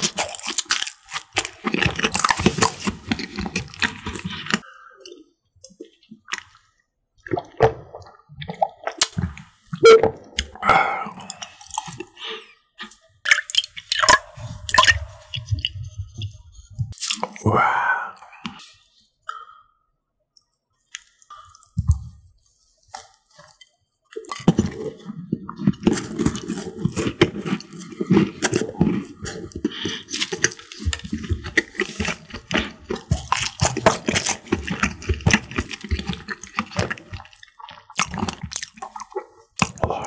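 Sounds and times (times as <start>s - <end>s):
close chewing sounds: 0.0s - 7.4s, 8.4s - 17.4s, 22.8s - 40.0s.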